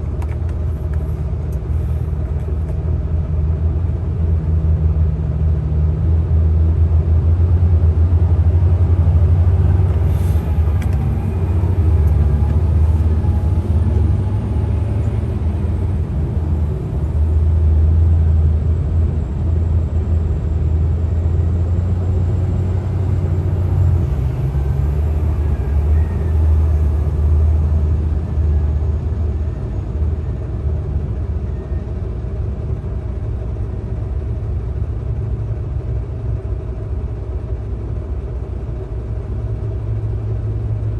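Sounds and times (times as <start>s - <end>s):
diesel engine low rumble: 0.0s - 40.9s.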